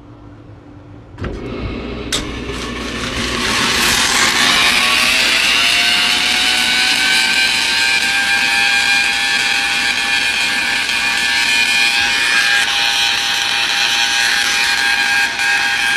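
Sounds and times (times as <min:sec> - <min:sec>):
rotary spark gap buzzing and crackling: 0:02.1 - 0:15.9.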